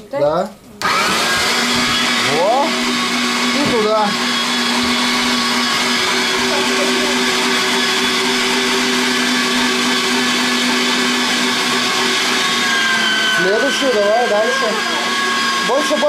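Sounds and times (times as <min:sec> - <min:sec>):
electric meat grinder running: 0:00.8 - 0:16.0.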